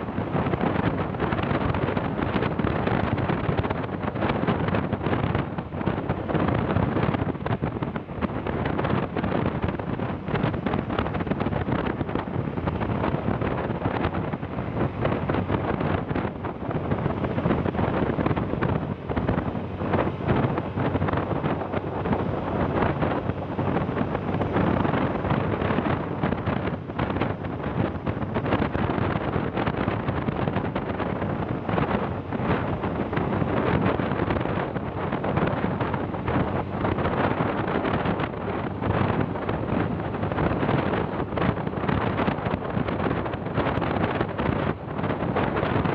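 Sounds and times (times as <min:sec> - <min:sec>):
vehicle engine running: 0:00.0 - 0:45.9
wind buffeting microphone: 0:00.0 - 0:45.9.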